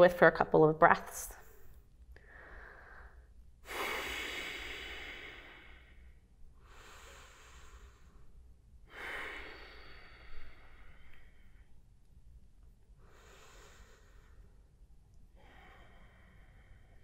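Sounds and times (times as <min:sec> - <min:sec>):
woman breathing slowly: 0:01.4 - 0:17.0.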